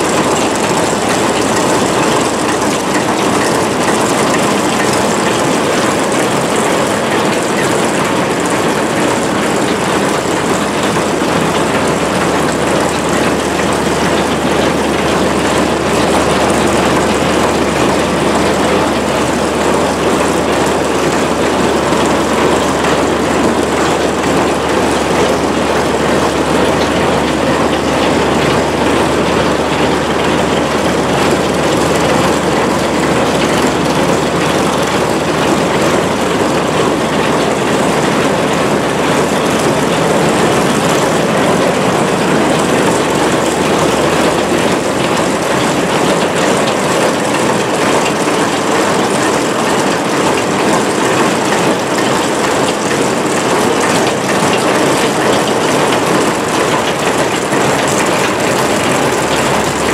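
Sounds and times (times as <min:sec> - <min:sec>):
loud mechanical din: 0:00.0 - 0:59.9.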